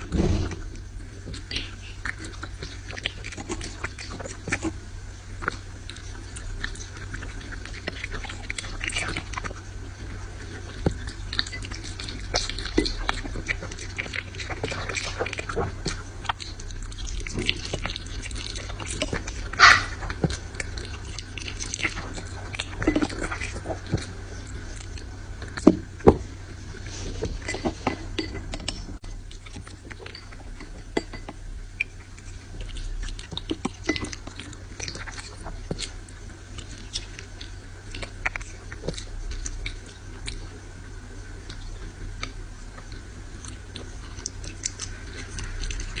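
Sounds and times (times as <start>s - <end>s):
dog chewing and eating: 0.0s - 46.0s
steady low hum: 0.0s - 46.0s.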